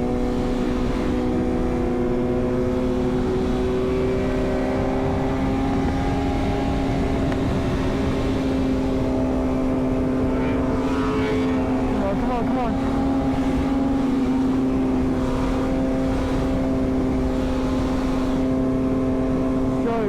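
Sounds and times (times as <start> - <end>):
motorcycle engine running: 0.0 - 20.0
wind noise rumble: 0.0 - 20.0.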